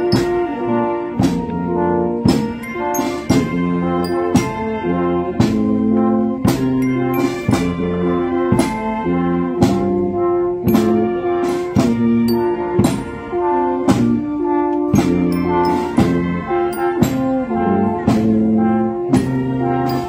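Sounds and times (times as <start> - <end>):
wind band playing march: 0.0 - 20.0
drum strokes: 1.2 - 9.0, 10.6 - 20.0.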